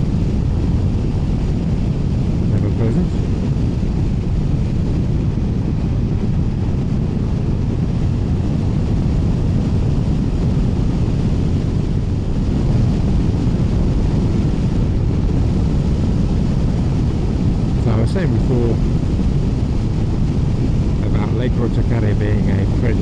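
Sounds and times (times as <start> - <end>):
motorcycle engine and road noise: 0.0 - 23.0
wind rush over microphone: 0.0 - 23.0.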